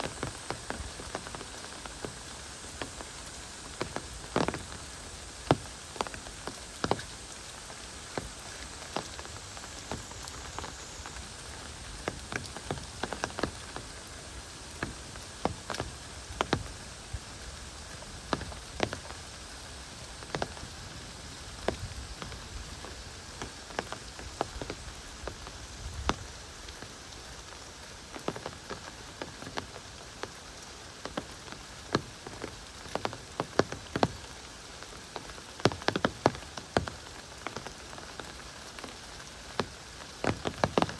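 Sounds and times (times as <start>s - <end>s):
heavy rain hissing: 0.0s - 40.9s
raindrops striking close by: 0.0s - 40.9s.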